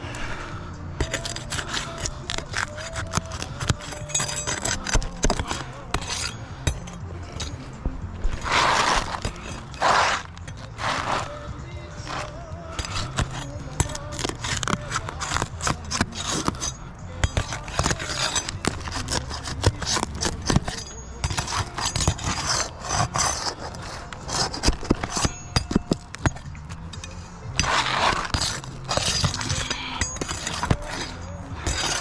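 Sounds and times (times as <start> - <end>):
metal clicking on shingles: 1.0 - 32.0
tools scraping roof shingles: 1.0 - 32.0.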